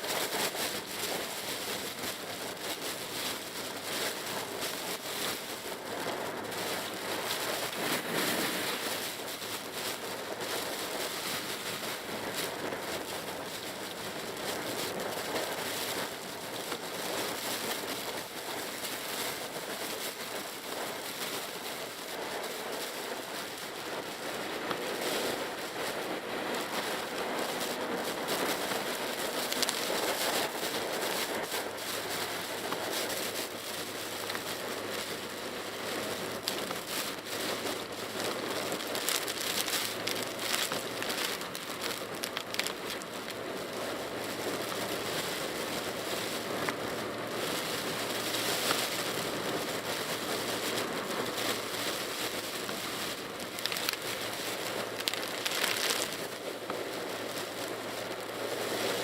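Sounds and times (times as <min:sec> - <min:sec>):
engine and road hum: 0:00.0 - 0:59.0
heavy rain on car roof: 0:00.0 - 0:59.0.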